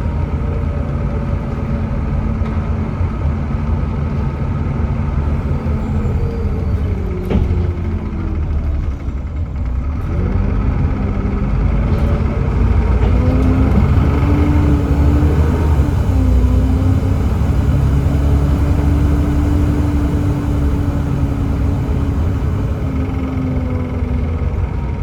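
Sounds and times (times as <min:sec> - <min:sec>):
bus diesel engine under load: 0:00.0 - 0:25.0.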